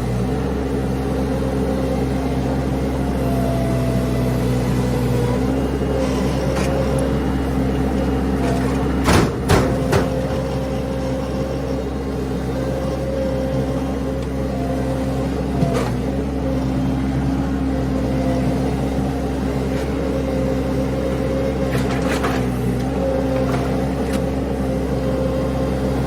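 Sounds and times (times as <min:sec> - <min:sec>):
skid steer engine running: 0:00.0 - 0:26.0.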